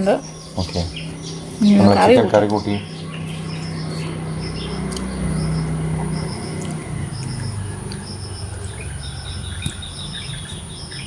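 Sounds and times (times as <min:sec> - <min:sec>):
small bird chirping: 0:00.0 - 0:11.0
steady low hum: 0:00.0 - 0:11.0.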